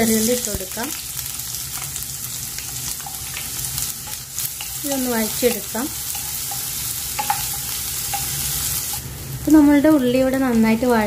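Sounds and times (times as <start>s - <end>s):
shallots sizzling in hot oil: 0.0s - 11.0s.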